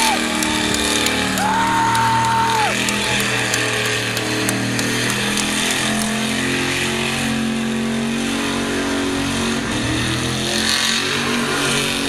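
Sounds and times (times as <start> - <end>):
truck engine revving high: 0.0 - 12.0.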